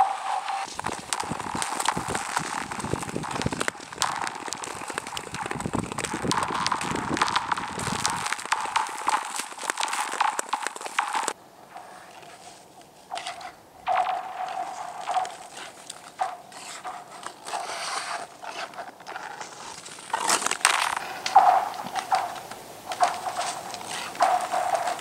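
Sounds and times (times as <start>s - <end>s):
skate blades scraping ice: 0.0s - 25.0s.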